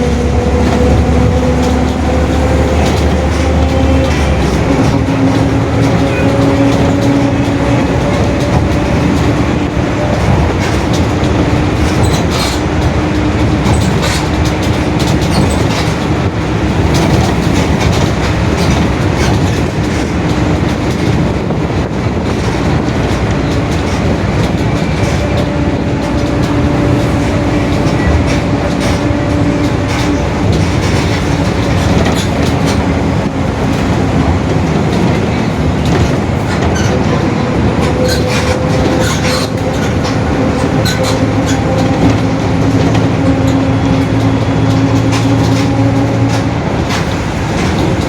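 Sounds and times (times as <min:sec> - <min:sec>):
bus differential whining: 0:00.0 - 0:48.0
road rumble: 0:00.0 - 0:48.0.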